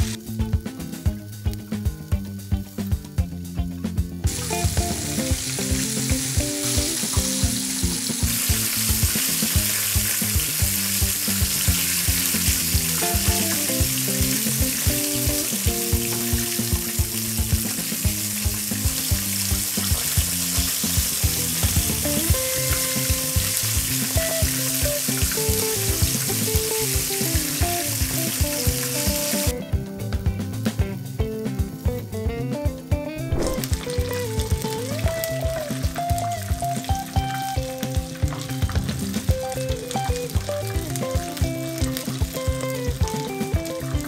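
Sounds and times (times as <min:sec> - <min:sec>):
chicken sizzling in hot oil: 0:00.0 - 0:29.6, 0:33.2 - 0:44.0
background music with steady beat: 0:00.0 - 0:44.0.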